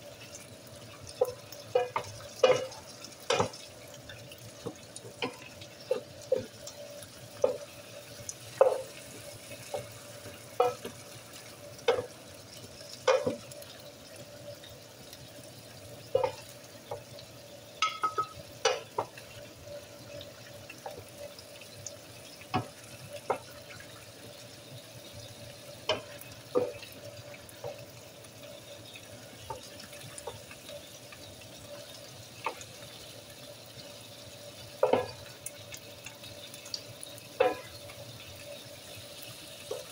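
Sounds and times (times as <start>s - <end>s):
chicken simmering: 0.0s - 39.9s.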